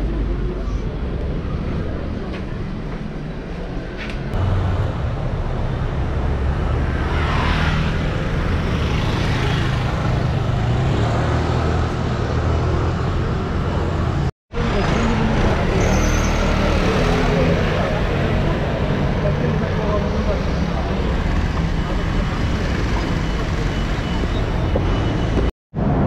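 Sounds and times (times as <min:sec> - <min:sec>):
scooters and cars passing: 0:03.2 - 0:26.0.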